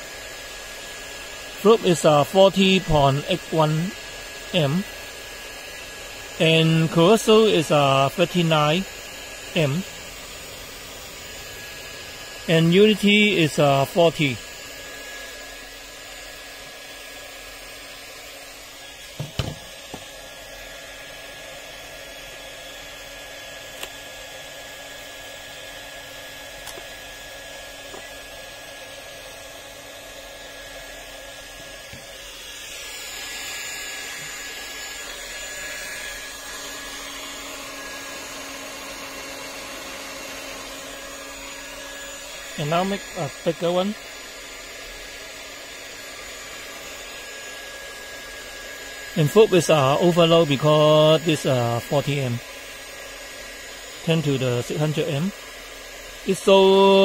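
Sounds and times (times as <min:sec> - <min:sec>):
steady whir: 0:00.1 - 0:57.0.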